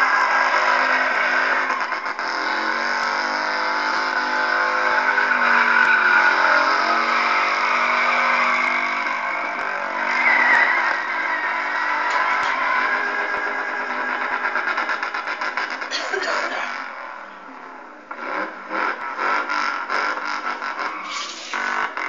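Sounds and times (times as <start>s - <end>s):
tyres screeching: 0.0s - 16.9s, 19.0s - 22.0s
suv engine revving: 0.0s - 22.0s.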